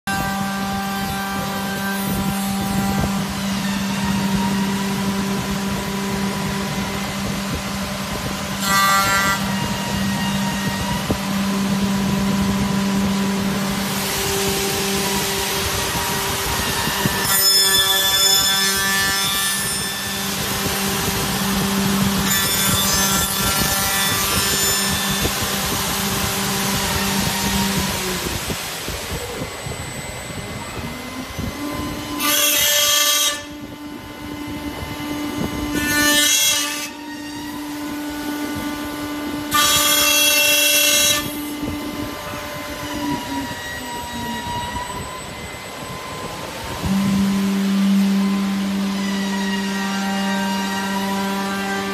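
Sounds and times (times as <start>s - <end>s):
motors humming: 0.1s - 32.8s, 36.9s - 51.9s
cutter heads whining into wood: 0.1s - 51.9s.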